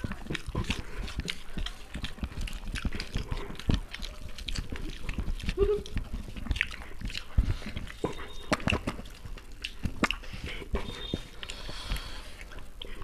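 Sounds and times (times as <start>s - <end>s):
people chewing with mouth clicks: 0.0s - 13.0s.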